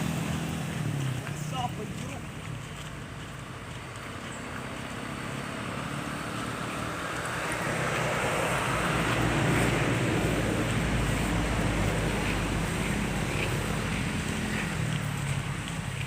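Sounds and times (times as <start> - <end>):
engine rumble: 0.0 - 16.0.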